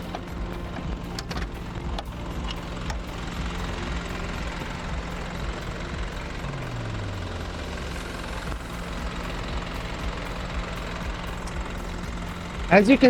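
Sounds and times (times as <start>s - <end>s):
diesel truck engine idling: 0.0s - 13.0s
falling hum: 0.0s - 13.0s.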